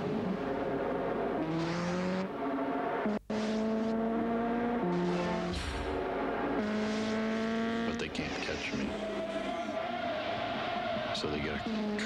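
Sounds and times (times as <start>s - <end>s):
car engine at speed: 0.0s - 12.0s.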